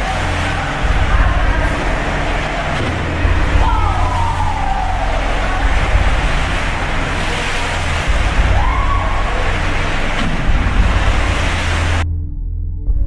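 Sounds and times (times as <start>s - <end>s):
rising and falling whine: 0.0s - 12.0s
storm rushing noise: 0.0s - 12.0s
water surging in pool: 0.0s - 12.0s.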